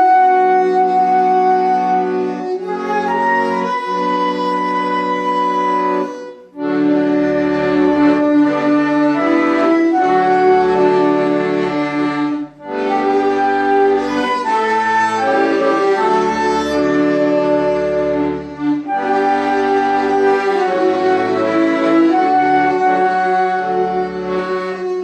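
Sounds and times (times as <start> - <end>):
sustained instrumental chords: 0.0 - 25.0.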